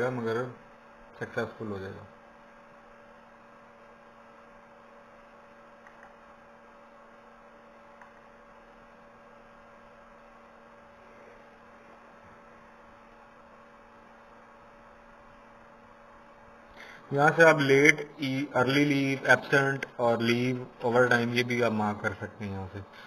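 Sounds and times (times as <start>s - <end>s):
background hiss: 0.0s - 23.0s
low electrical hum: 0.0s - 23.0s.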